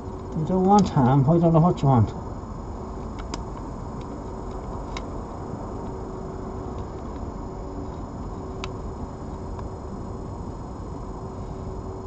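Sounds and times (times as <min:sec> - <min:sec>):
faint hum: 0:00.0 - 0:12.0
low rumble and hiss: 0:00.0 - 0:12.0.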